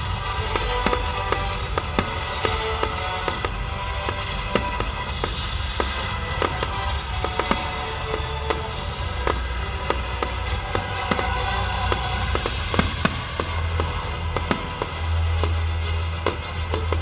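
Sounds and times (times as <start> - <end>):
fireworks bangs and pops: 0.0 - 17.0
loud music: 0.0 - 17.0.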